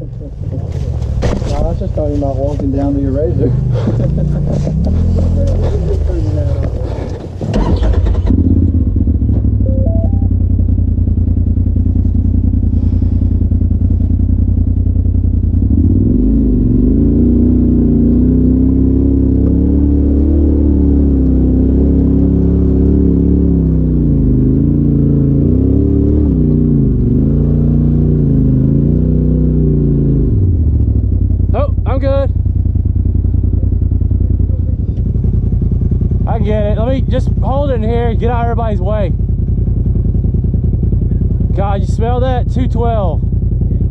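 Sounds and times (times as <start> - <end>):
engine revving: 0.0 - 43.9.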